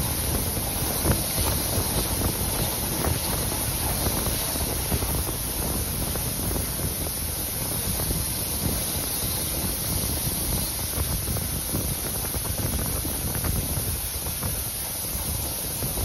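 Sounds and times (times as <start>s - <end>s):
train rumbling: 0.0s - 16.0s
wind buffeting microphone: 0.0s - 16.0s.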